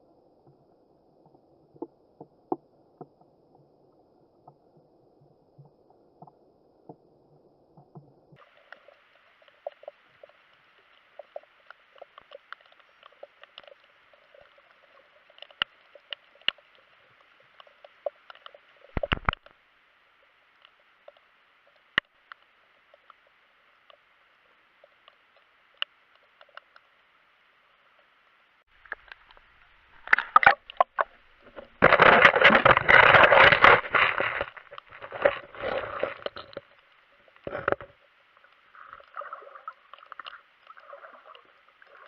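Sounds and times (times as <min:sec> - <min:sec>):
sharp underwater clicks and crackles: 0:05.6 - 0:19.6, 0:20.2 - 0:42.0.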